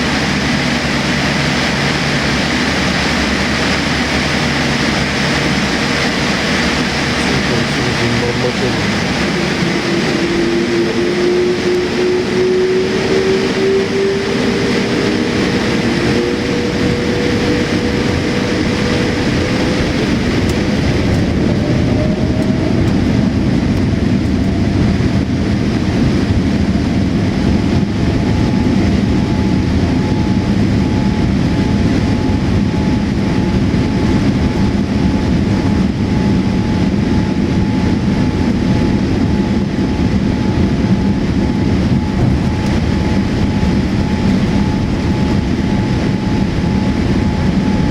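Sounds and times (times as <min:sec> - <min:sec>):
airliner cabin engine rumble: 0:00.0 - 0:47.9
rising engine whine: 0:00.0 - 0:47.9.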